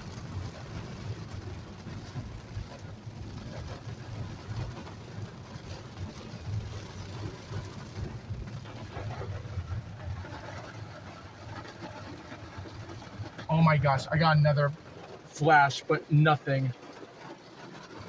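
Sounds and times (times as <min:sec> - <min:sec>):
engine and road rumble: 0:00.0 - 0:18.0
hiss of rain and wet tyres: 0:00.0 - 0:18.0.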